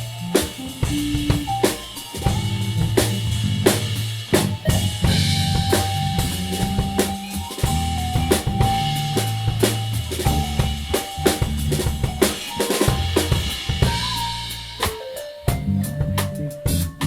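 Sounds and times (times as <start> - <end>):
low bass notes: 0.0 - 14.9, 15.5 - 17.0
bass drum and snare hits: 0.0 - 17.0
live band playing: 0.0 - 17.0.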